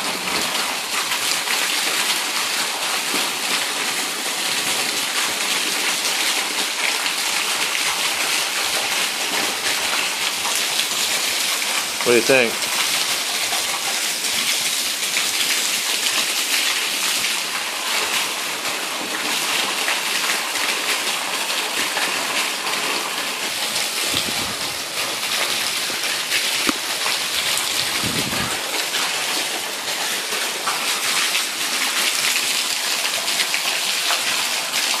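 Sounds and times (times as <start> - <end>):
heavy rain hissing: 2.0 - 16.0, 19.9 - 35.0.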